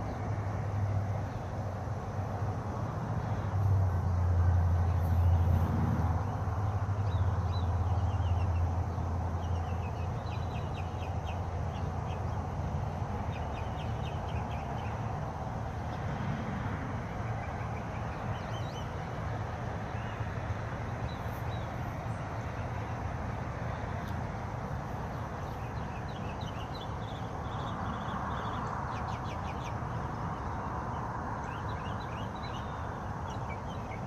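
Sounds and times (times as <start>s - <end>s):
small songbirds chirping: 0.0s - 34.0s.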